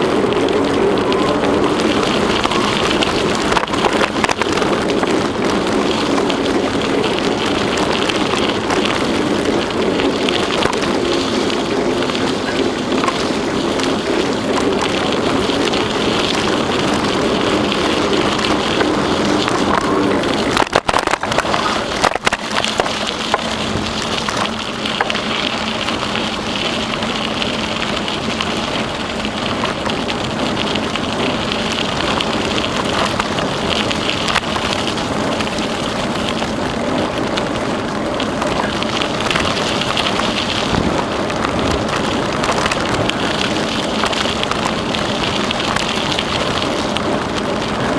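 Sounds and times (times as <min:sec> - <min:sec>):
bicycle tyres rolling: 0:00.0 - 0:47.9.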